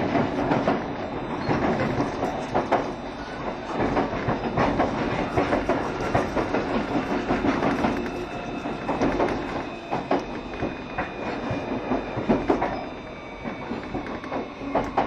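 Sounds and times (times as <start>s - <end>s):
electric train rumble: 0.0s - 15.0s.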